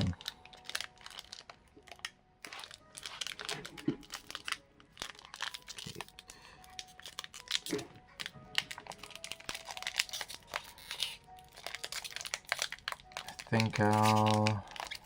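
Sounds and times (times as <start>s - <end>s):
foil pack crinkling: 0.0s - 15.0s
soft background music: 0.0s - 15.0s.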